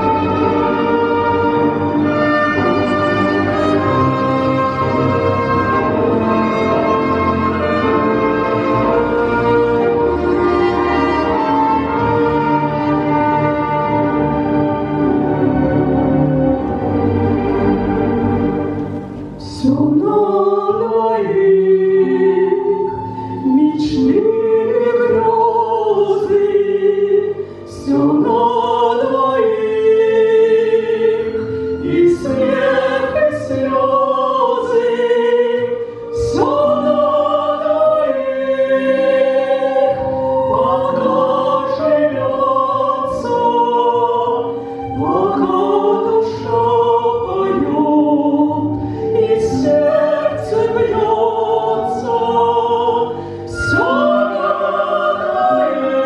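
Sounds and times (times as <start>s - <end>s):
operatic singing: 0.0s - 56.0s.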